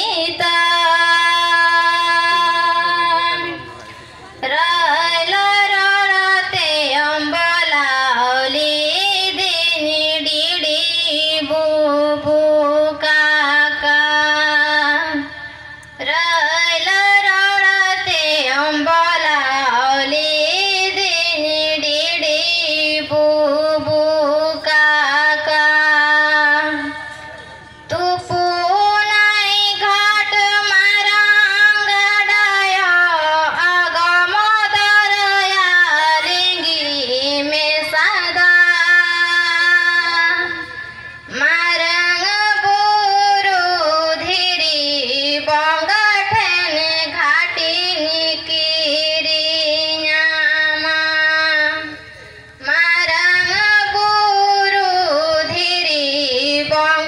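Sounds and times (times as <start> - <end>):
woman singing into a microphone: 0.0 - 3.8, 4.4 - 57.0.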